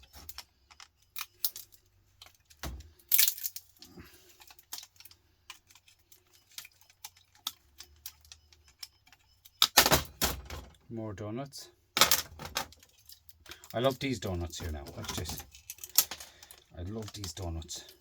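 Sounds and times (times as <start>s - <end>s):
small metal parts clinking: 0.0s - 10.8s, 12.0s - 18.0s.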